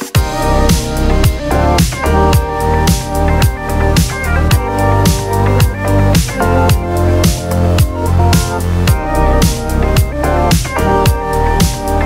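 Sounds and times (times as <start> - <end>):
background music with steady beat: 0.0 - 12.0
deep bass note sliding down: 0.2 - 12.0.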